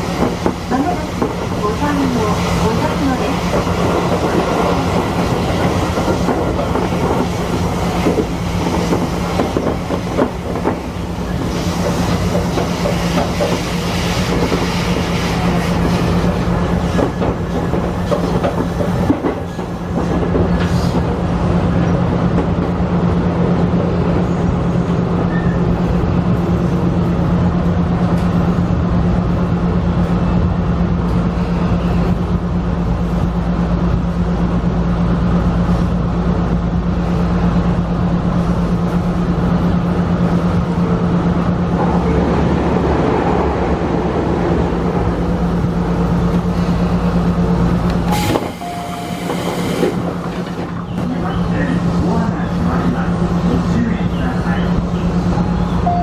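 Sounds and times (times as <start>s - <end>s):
train running hum: 0.0s - 56.0s.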